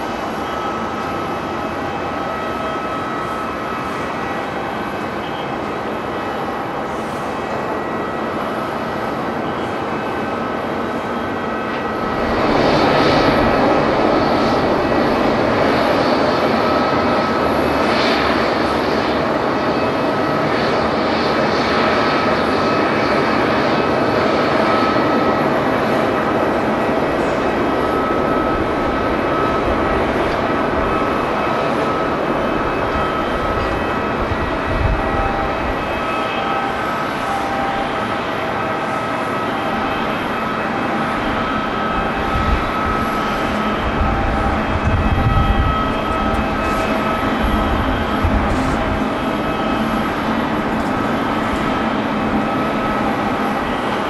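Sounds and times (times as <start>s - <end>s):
jet engines roaring with high whine: 0.0s - 54.0s.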